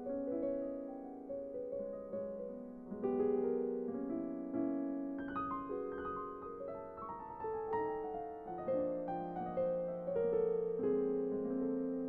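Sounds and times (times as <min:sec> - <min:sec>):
digital piano melody: 0:00.0 - 0:12.0.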